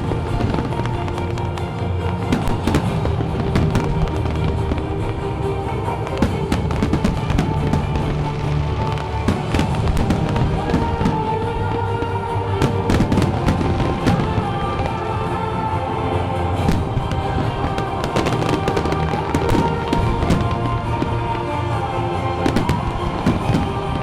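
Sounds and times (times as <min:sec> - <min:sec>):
fireworks bangs and crackles: 0:00.0 - 0:24.0
loud music: 0:00.0 - 0:24.0.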